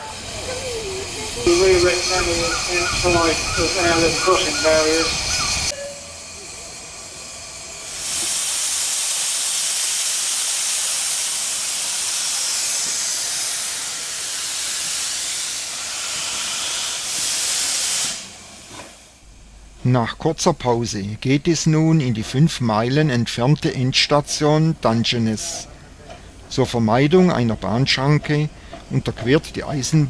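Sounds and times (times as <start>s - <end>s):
steam locomotive hissing: 0.0s - 26.7s.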